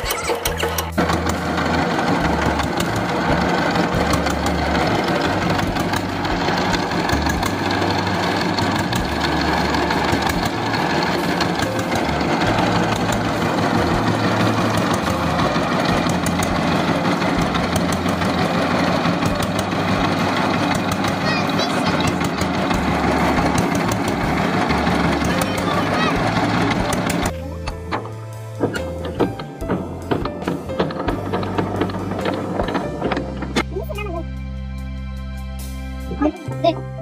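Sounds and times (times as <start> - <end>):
diesel pump engine clattering: 0.0 - 34.2.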